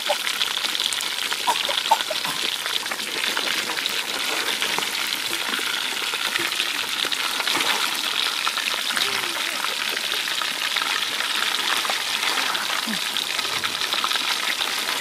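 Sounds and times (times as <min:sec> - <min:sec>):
fish deep-frying in hot oil: 0:00.0 - 0:15.0.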